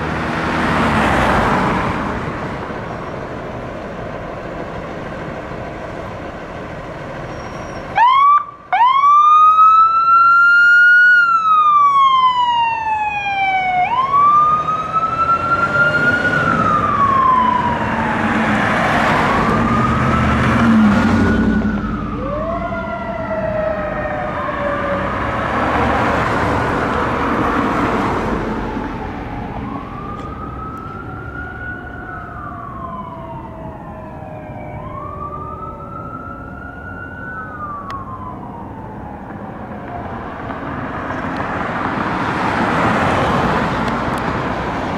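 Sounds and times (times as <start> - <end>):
fire engine siren wailing: 0.0 - 44.9
truck engine: 0.0 - 44.9.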